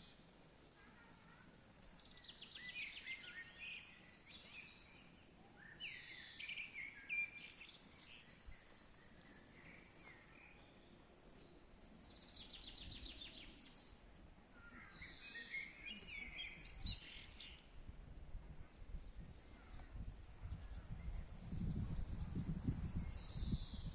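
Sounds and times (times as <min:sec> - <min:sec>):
outdoor background noise: 0:00.0 - 0:23.9
songbirds chirping: 0:00.0 - 0:23.9.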